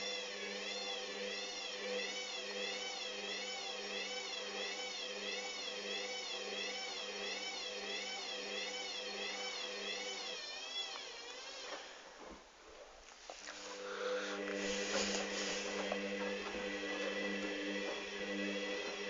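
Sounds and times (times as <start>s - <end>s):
washing machine spinning: 0.0s - 12.2s, 13.7s - 19.0s.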